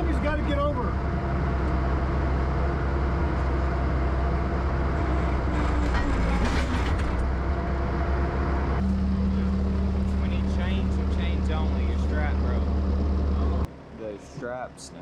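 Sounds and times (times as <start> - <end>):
diesel engines running under load: 0.0 - 15.0.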